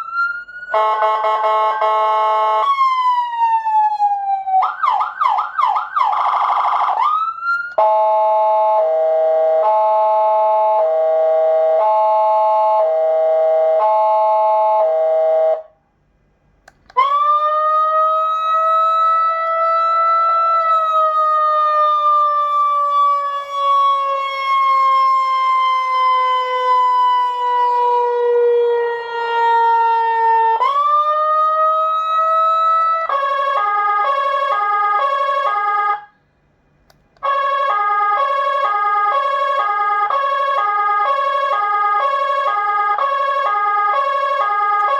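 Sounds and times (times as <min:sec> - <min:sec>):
fast multi-pitch siren pattern: 0:00.0 - 0:15.7, 0:17.0 - 0:36.1, 0:37.2 - 0:44.9
siren wail: 0:00.0 - 0:15.7, 0:16.9 - 0:36.2, 0:37.2 - 0:44.9
stepped alternating siren tones: 0:00.0 - 0:15.7, 0:16.8 - 0:36.2, 0:37.2 - 0:44.9.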